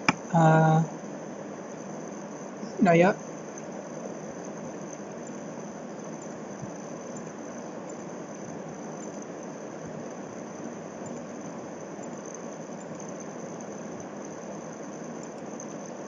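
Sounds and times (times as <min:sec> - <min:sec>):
high constant whine: 0:00.0 - 0:16.0
steady background hiss: 0:00.0 - 0:16.0.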